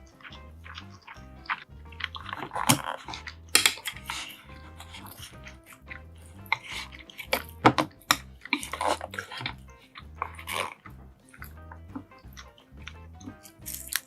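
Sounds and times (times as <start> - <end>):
background music with low beat: 0.0 - 14.0
slurping and chewing: 0.0 - 14.0.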